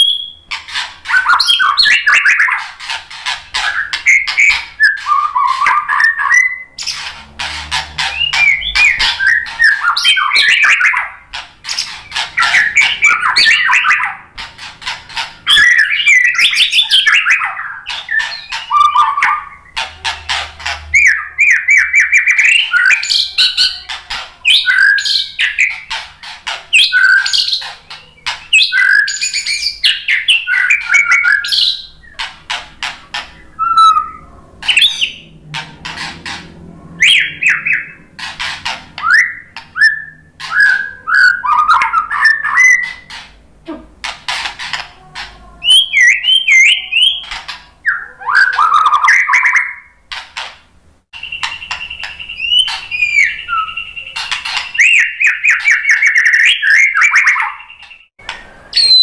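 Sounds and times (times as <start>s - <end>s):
bird singing varied song: 0.0s - 50.1s, 51.1s - 59.0s.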